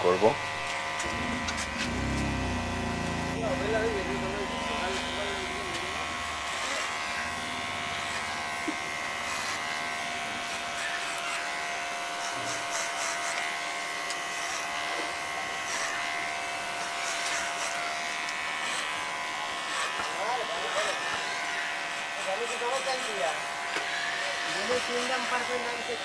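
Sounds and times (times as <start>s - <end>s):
electric hair clipper buzzing: 0.0s - 26.0s
hair rustling under clipper blades: 0.4s - 2.3s, 3.0s - 20.2s, 20.8s - 25.9s.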